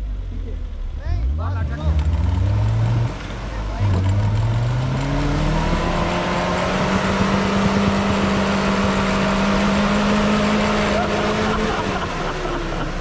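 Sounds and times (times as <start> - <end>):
engine revving up: 0.9 - 13.0.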